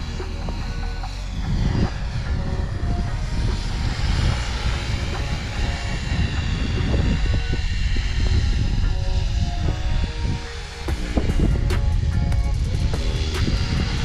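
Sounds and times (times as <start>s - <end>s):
rc helicopter rotor whine: 0.0s - 14.0s.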